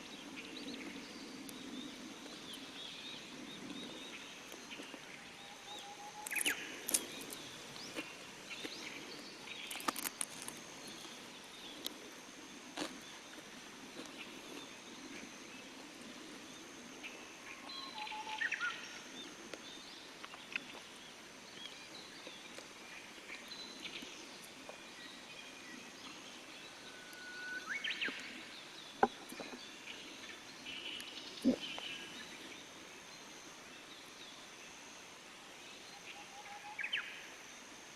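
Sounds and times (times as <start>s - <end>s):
birds singing and chirping: 0.0s - 15.7s, 16.5s - 33.2s
faint high whine: 0.0s - 37.9s.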